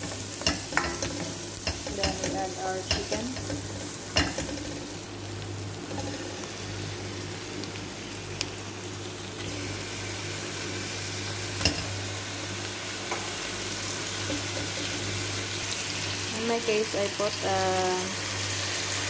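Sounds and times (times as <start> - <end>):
onions sizzling in butter: 0.0 - 19.0.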